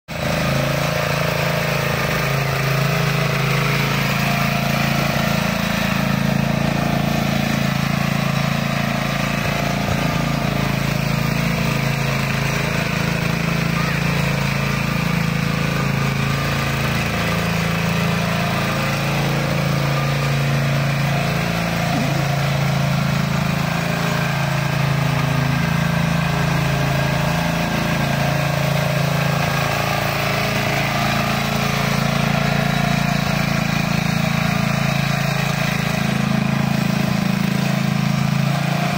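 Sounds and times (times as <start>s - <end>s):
tiller engine running: 0.1s - 38.9s.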